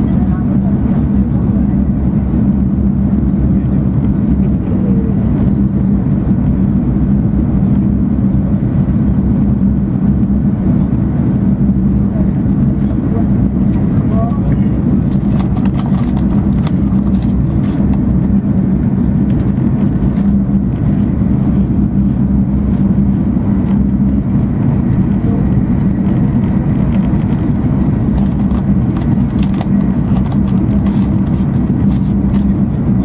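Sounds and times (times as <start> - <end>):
constant hum: 0.0 - 33.0
train wheels and air rumbling: 0.0 - 33.0.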